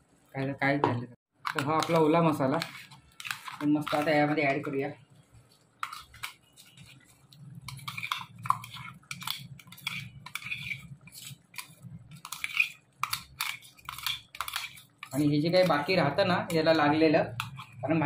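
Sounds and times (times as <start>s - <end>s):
spoon scraping and knocking on pot: 0.9s - 17.8s.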